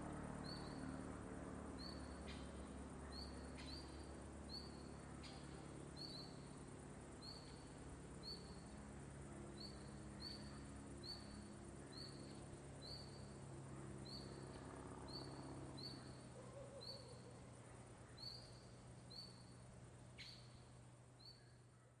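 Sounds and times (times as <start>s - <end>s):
distant small plane engine drone: 0.0s - 22.0s.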